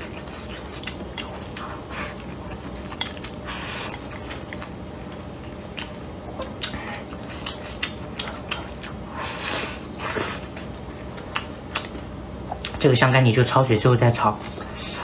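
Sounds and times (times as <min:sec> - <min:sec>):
chewing with mouth clicks: 0:00.0 - 0:12.8.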